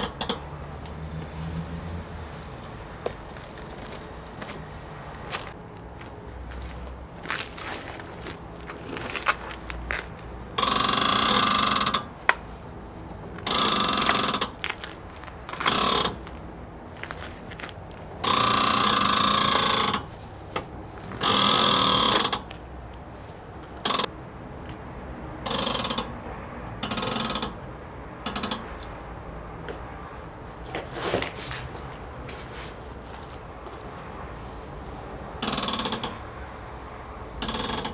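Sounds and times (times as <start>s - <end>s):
suspension bearings grinding and creaking: 0.0s - 24.8s, 25.4s - 29.8s, 30.6s - 37.9s.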